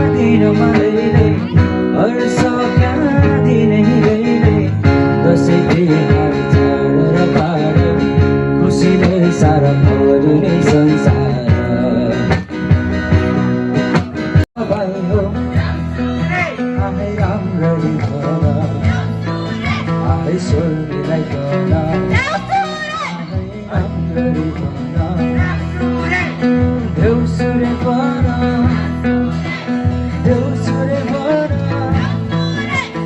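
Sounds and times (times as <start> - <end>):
person singing: 0.0 - 12.6, 14.6 - 33.0
song with guitar: 0.0 - 33.0.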